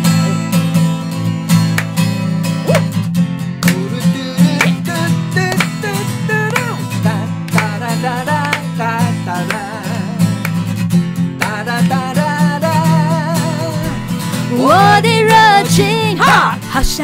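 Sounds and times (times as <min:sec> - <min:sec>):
guitar strummed and picked: 0:00.0 - 0:17.0.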